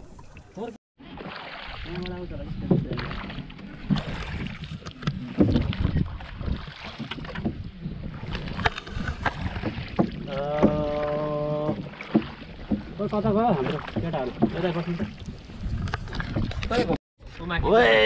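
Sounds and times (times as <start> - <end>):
oar blades splashing water: 0.0 - 17.0
oars knocking against hull: 0.1 - 17.0
wind buffeting microphone: 1.9 - 11.9, 12.5 - 17.8.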